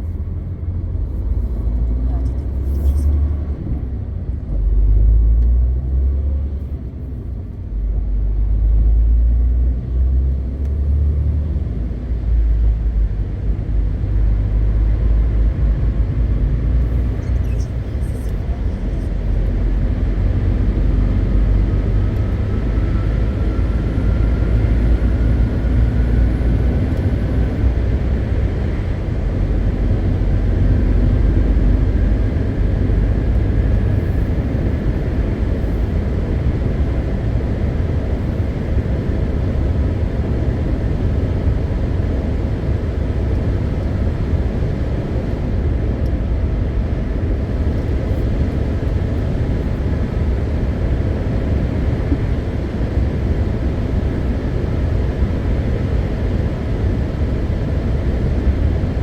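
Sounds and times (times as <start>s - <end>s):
truck diesel engine rumble: 0.0s - 59.0s.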